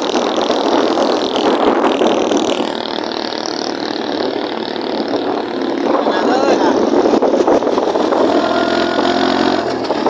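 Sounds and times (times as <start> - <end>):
motorcycle engine: 0.0 - 10.0
wind and road noise: 0.0 - 10.0.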